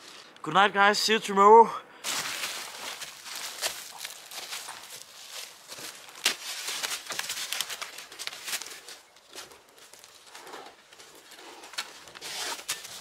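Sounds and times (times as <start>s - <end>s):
branches rustling: 2.0s - 13.0s
footsteps crunching dry leaves: 2.0s - 13.0s.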